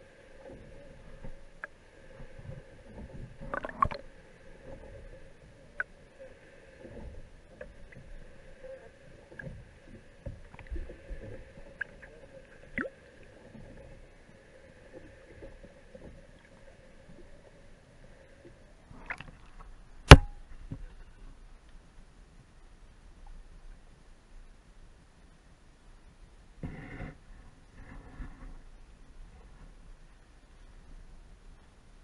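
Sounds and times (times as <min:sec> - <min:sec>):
underwater low hum: 0:00.0 - 0:32.0.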